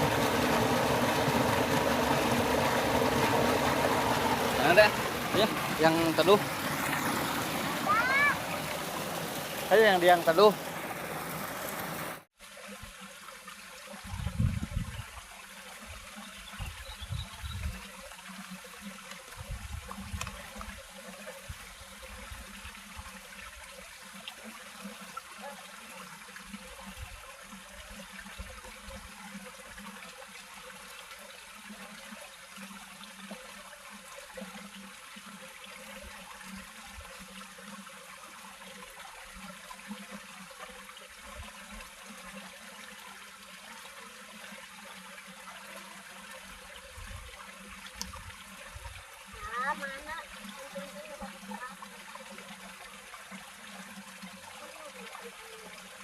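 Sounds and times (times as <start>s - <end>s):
water rushing: 0.0s - 14.2s, 17.6s - 56.0s.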